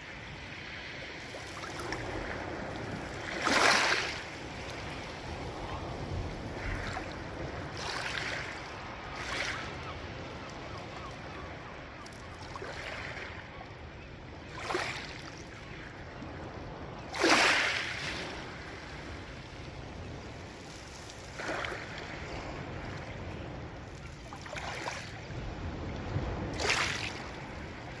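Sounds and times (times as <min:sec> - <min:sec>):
steady surf: 0:00.0 - 0:12.4, 0:15.9 - 0:28.0
sea waves breaking on shore: 0:00.0 - 0:28.0.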